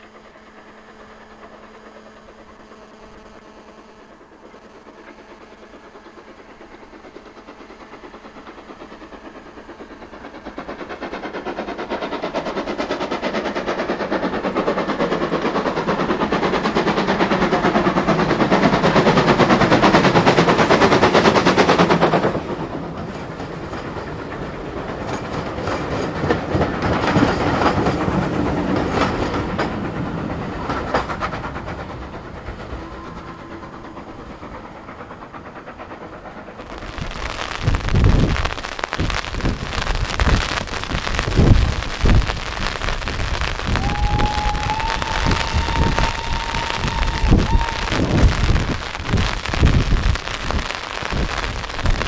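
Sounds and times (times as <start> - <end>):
steam locomotive passing: 0.0 - 52.0
train wheels clicking over rail joints: 0.0 - 52.0.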